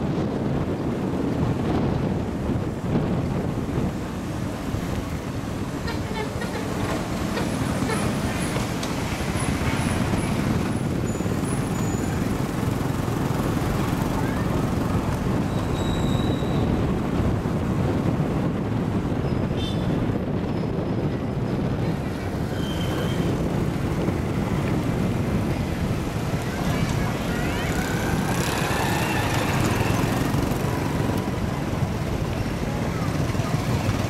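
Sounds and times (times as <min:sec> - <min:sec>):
motorbike engine and wind noise: 0:00.0 - 0:34.0
scooters and cars passing: 0:00.0 - 0:34.0.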